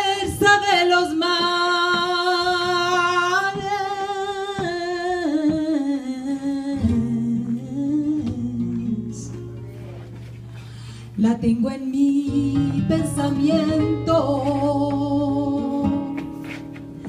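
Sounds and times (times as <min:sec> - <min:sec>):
flamenco guitar: 0:00.0 - 0:17.0
woman singing flamenco: 0:00.0 - 0:17.0.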